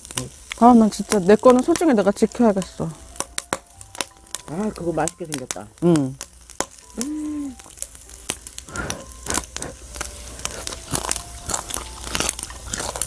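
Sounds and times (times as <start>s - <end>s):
pork skin popping and crackling: 0.0s - 13.0s.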